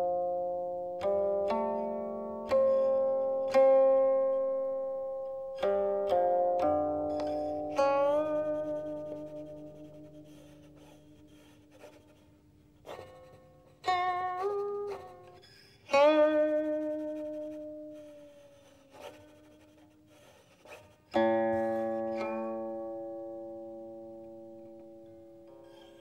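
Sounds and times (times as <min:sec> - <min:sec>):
plucked zither notes: 0:00.0 - 0:12.0, 0:12.9 - 0:26.0.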